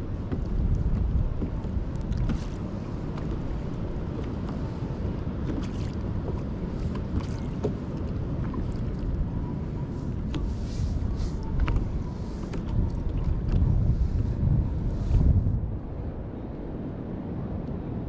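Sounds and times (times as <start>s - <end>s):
water lapping against kayak hull: 0.0s - 16.0s
wind buffeting microphone: 0.0s - 18.0s.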